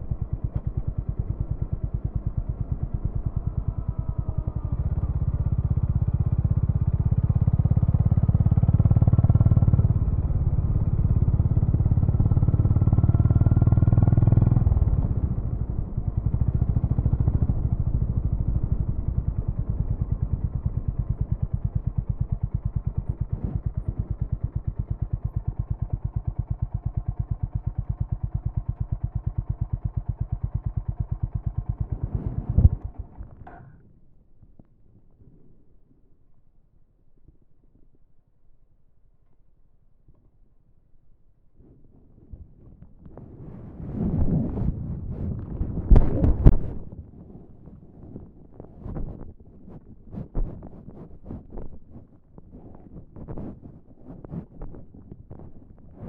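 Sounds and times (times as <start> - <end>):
motorcycle engine revving and idling: 0.0 - 34.7, 41.6 - 56.0.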